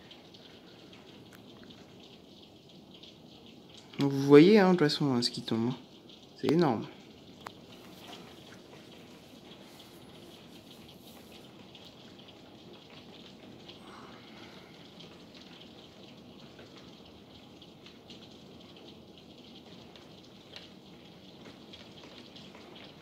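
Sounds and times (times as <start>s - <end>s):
heavy rain falling: 0.0s - 23.0s
raindrops ticking close by: 0.0s - 23.0s.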